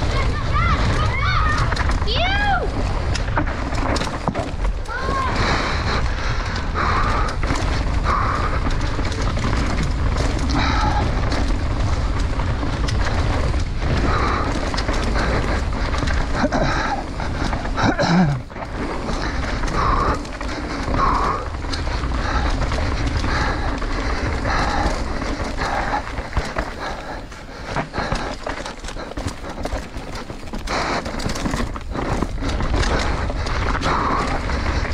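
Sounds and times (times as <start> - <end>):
bike knocking and rattling: 0.0 - 34.9
bike tyre rumble: 0.0 - 34.9.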